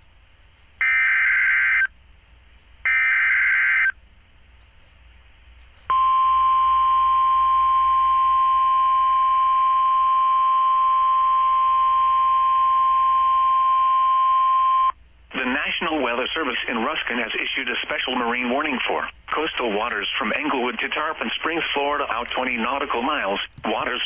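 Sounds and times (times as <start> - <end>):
steady warning alarm tone: 0.8 - 1.9, 2.9 - 4.0, 5.9 - 24.0.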